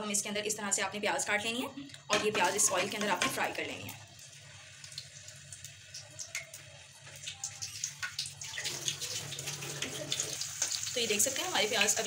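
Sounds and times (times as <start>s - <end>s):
onions sizzling in hot oil: 2.3s - 12.0s.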